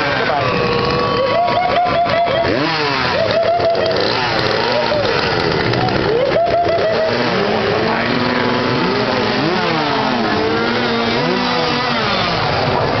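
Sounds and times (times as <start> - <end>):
chainsaws revving: 0.0 - 13.0.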